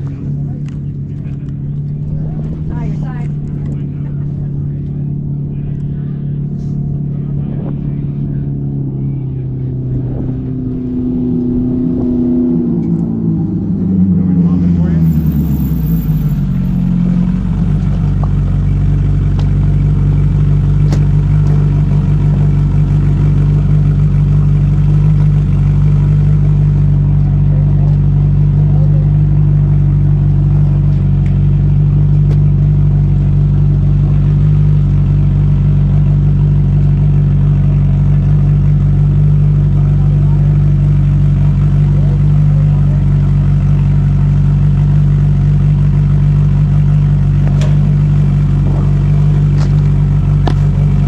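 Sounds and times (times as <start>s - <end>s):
race car engine idling: 0.0s - 51.0s.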